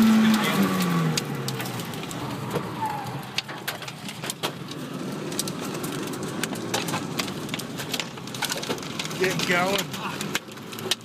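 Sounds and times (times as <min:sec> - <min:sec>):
debris striking car: 0:00.0 - 0:11.0.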